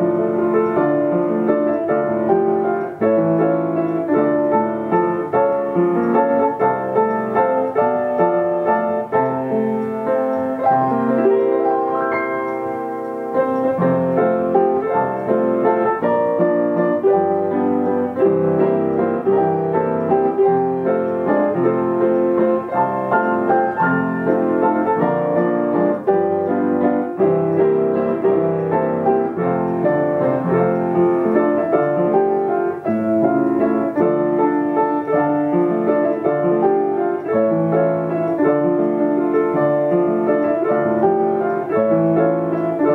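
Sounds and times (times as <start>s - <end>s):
player piano playing a tune: 0.0s - 42.9s.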